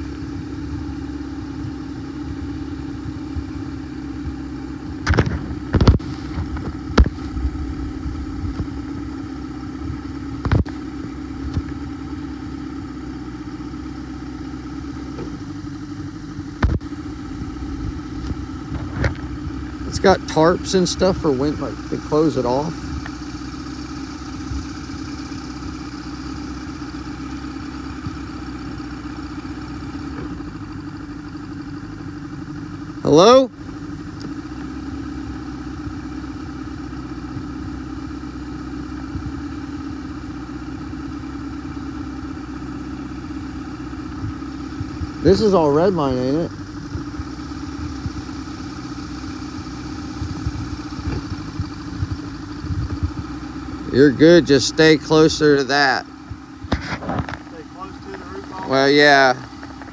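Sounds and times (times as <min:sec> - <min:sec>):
boat motor idling: 0:00.0 - 0:59.9.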